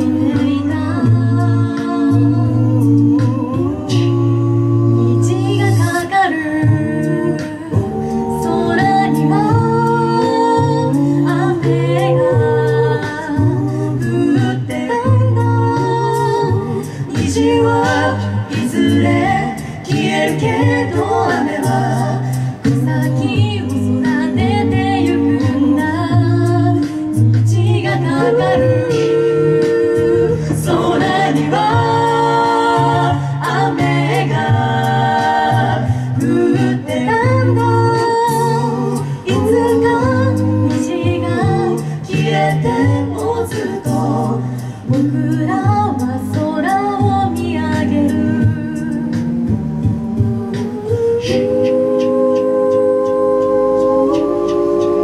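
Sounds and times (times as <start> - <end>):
a cappella group singing in harmony: 0.0 - 55.0
sung bass line: 0.0 - 55.0
vocal percussion clicking beat: 0.0 - 55.0.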